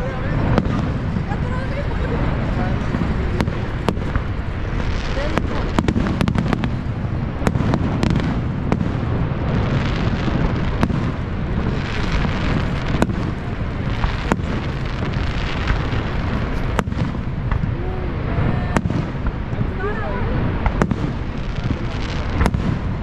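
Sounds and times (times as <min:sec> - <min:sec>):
fireworks bangs and cracks: 0:00.0 - 0:23.0
steady rushing noise: 0:00.0 - 0:23.0.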